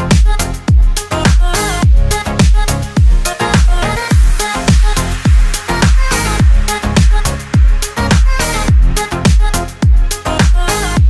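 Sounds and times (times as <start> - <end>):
sharp percussion hits: 0.1 - 10.2
deep kick drum: 0.1 - 11.0.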